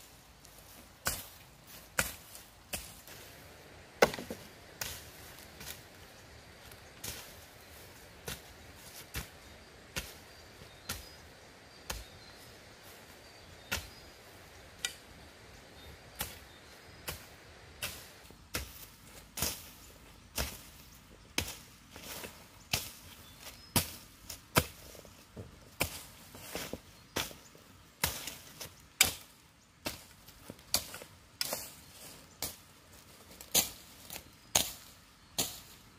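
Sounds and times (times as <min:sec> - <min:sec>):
hoe chopping into dry soil: 0:00.4 - 0:15.2, 0:15.8 - 0:35.9.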